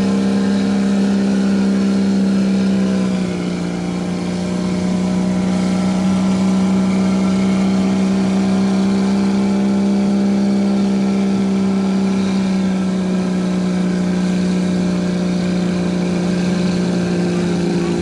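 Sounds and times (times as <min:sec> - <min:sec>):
engine running at high revs: 0:00.0 - 0:18.0.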